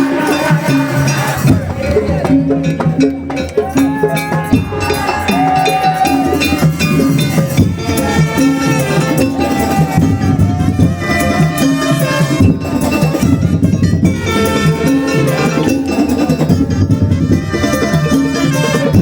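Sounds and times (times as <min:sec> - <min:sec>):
drums and percussion: 0:00.0 - 0:19.0.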